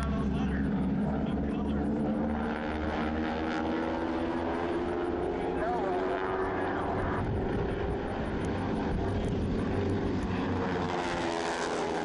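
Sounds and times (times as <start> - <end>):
propeller planes droning: 0.0 - 12.0.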